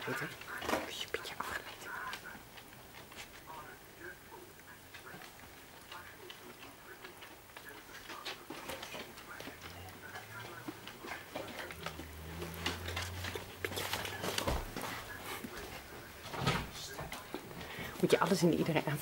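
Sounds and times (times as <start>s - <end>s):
puppy chewing kibble: 0.0s - 19.0s.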